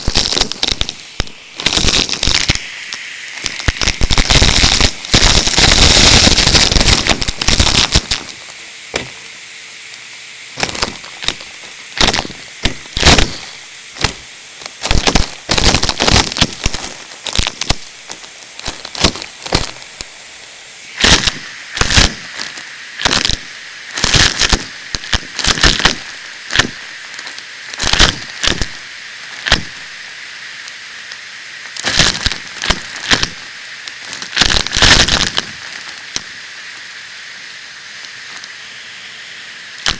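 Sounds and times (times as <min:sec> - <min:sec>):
debris crackling through tube: 0:00.0 - 0:38.6
vacuum cleaner hissing: 0:00.0 - 0:39.9.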